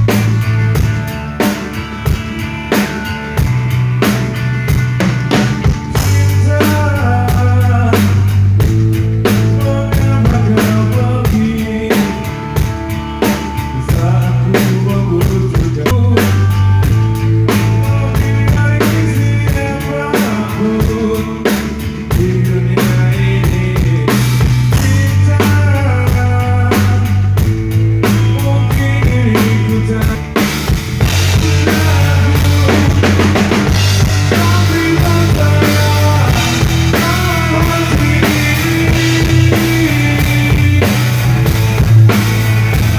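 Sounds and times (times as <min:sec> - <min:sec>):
band playing through sound system: 0:00.0 - 0:42.9
drum kit steady beat: 0:00.0 - 0:42.9.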